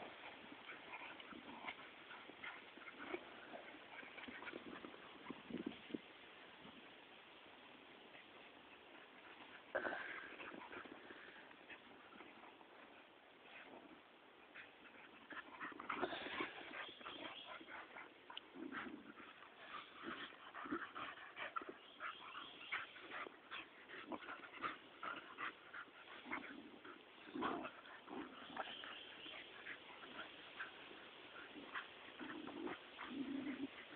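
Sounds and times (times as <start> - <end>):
low dog vocal noises: 0.0 - 5.8, 9.2 - 33.9.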